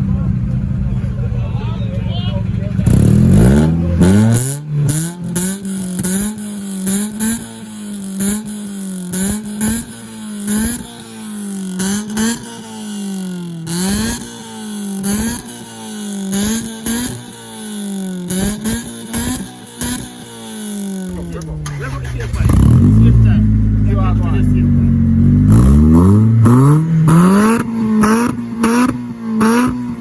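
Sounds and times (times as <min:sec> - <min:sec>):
car engine revving: 0:00.0 - 0:30.0
sharp exhaust cracks: 0:02.5 - 0:30.0.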